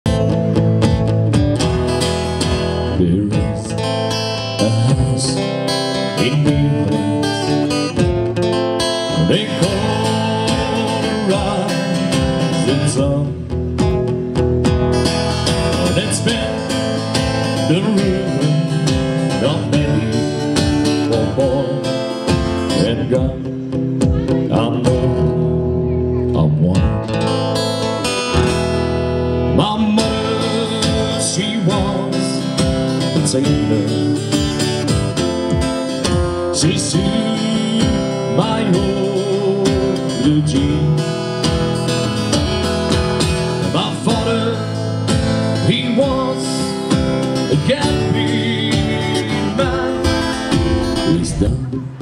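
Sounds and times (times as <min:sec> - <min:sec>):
acoustic guitar: 0:00.0 - 0:52.0
man singing: 0:02.0 - 0:13.8, 0:15.1 - 0:27.2, 0:29.4 - 0:52.0.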